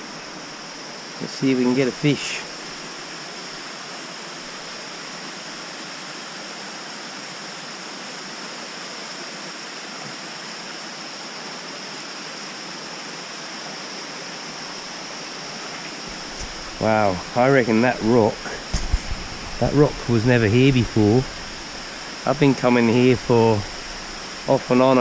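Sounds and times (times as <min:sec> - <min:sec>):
creek and waterfall rushing: 0:00.0 - 0:25.0.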